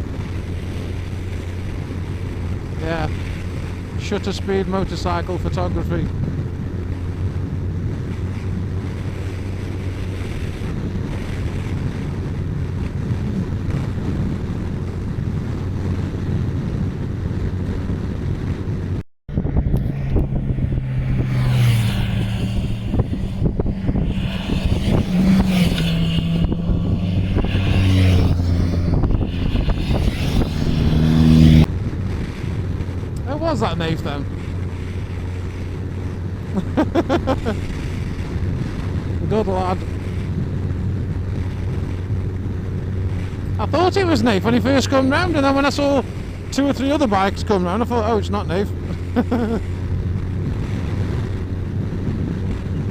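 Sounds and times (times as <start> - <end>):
motorcycle engine cruising: 0.0 - 52.9
wind noise: 0.0 - 52.9.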